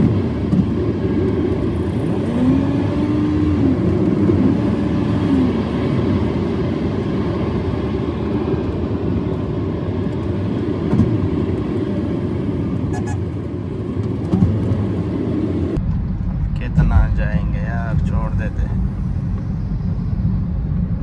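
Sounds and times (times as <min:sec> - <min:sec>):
road and tyre noise in car: 0:00.0 - 0:21.0.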